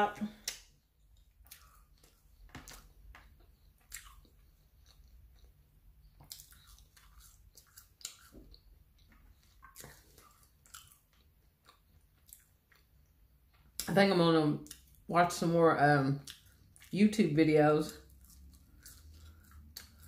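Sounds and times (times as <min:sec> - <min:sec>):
chewing french fries: 0:00.3 - 0:13.9, 0:14.6 - 0:15.1, 0:16.1 - 0:20.0.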